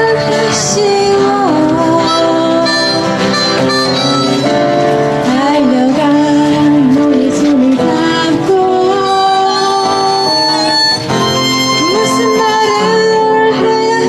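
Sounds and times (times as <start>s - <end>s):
band accompaniment: 0.0s - 14.0s
lead melody with pitch slides: 0.0s - 14.0s.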